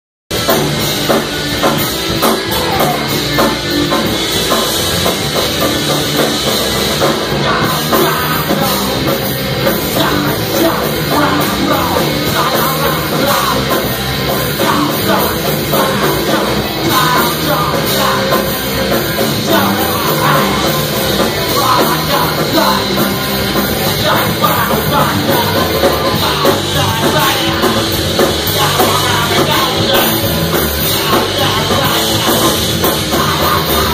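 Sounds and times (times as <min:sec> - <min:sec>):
distorted electric guitars: 0:00.3 - 0:33.9
drum kit: 0:00.3 - 0:33.9
person singing: 0:02.2 - 0:04.6, 0:06.9 - 0:33.9.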